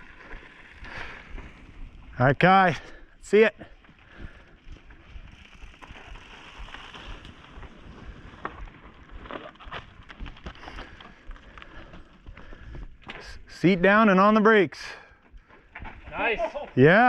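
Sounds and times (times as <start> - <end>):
bike tyres crunching over gravel: 0.0 - 14.3.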